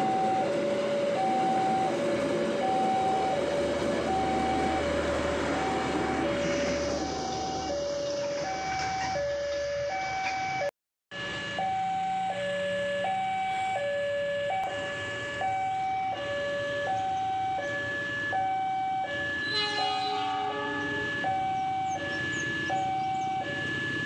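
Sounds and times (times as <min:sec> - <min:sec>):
two-tone electronic alarm: 0:00.0 - 0:24.0.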